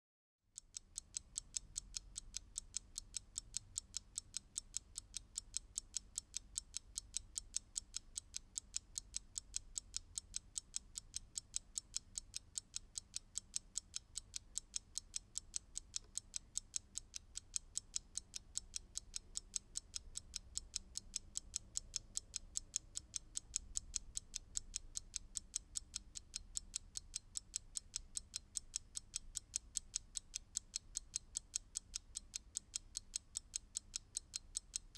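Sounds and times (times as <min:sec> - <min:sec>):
mechanical clock ticking: 0:00.5 - 0:34.9.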